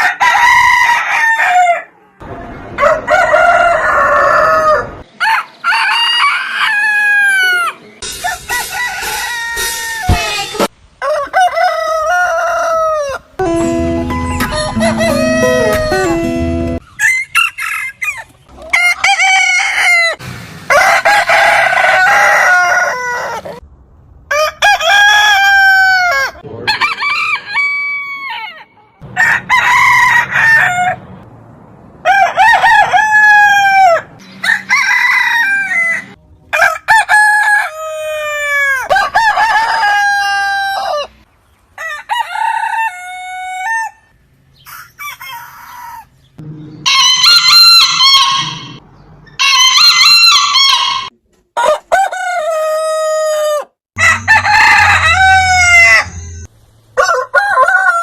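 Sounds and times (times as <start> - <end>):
roosters crowing: 0.0 - 10.4, 11.0 - 13.4, 14.2 - 23.6, 24.3 - 31.2, 32.0 - 58.0.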